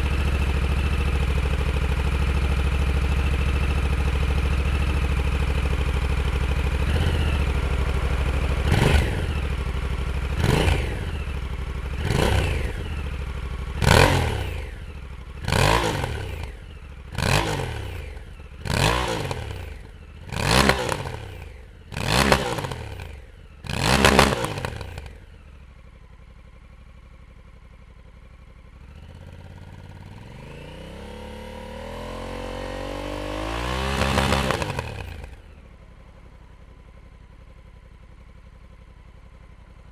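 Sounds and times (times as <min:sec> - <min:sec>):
motorcycle engine revving: 0:00.0 - 0:25.6, 0:28.4 - 0:36.6.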